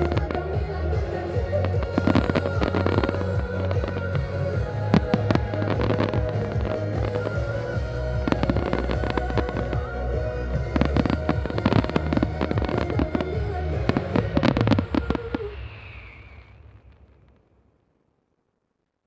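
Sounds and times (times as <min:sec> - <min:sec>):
music: 0:00.0 - 0:15.5
fireworks bangs and crackles: 0:00.0 - 0:18.0.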